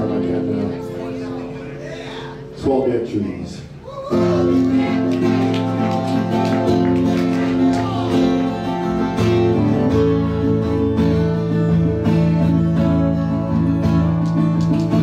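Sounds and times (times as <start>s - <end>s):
acoustic guitar strumming chords: 0.0s - 3.3s, 4.2s - 15.0s.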